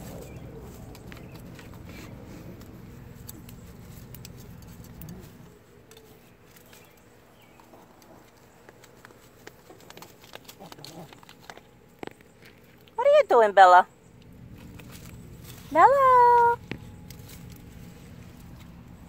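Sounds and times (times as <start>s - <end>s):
rustling in dry leaves: 0.0s - 13.2s, 14.2s - 19.0s.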